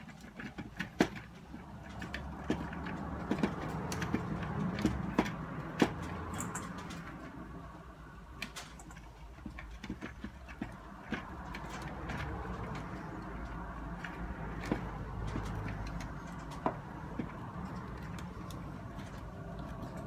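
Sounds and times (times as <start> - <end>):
clicks and knocks of handling: 0.0 - 20.0.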